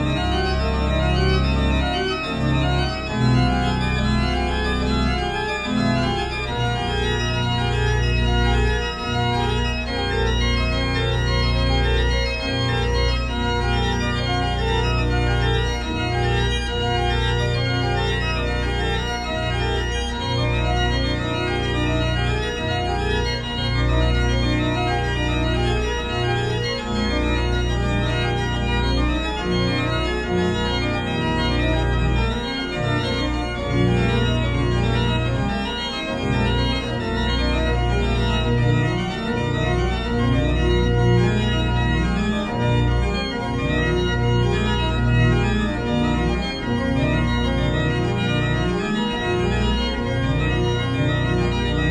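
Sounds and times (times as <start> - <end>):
organ music: 0.0 - 51.9.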